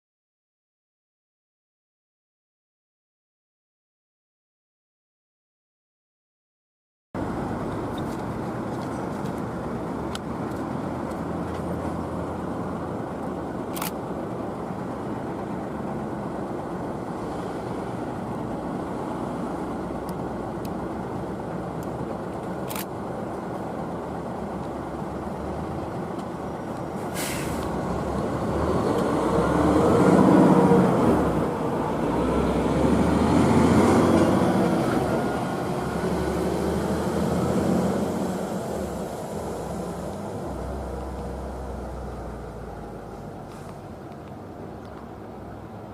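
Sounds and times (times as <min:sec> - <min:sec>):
outdoor background noise: 0:07.2 - 0:45.9.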